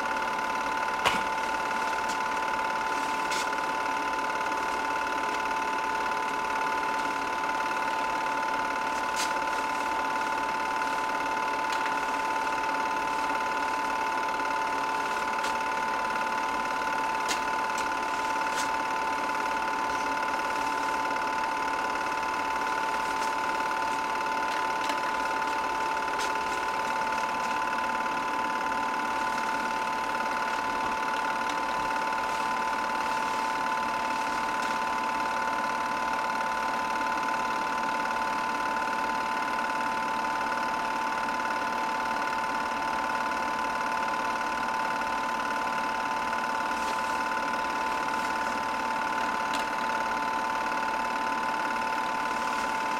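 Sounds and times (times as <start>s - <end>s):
film projector whirring: 0.0s - 52.9s.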